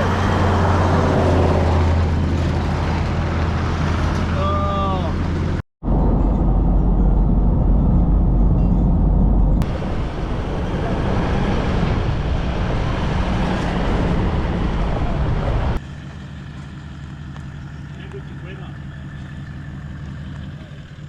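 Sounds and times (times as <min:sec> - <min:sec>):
vehicle running rumble: 0:00.0 - 0:21.0.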